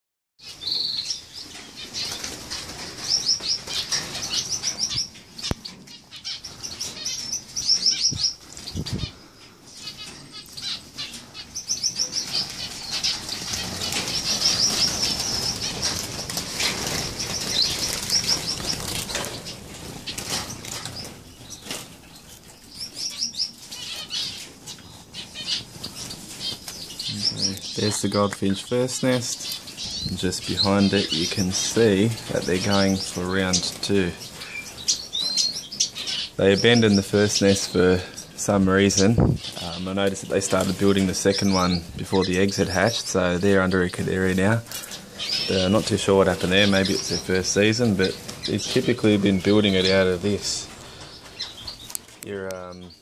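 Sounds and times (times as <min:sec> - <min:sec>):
finches chirping and twittering: 0:00.4 - 0:53.0.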